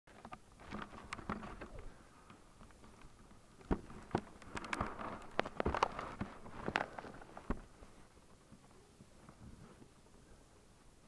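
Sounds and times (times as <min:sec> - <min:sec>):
rustling: 0:00.1 - 0:11.0.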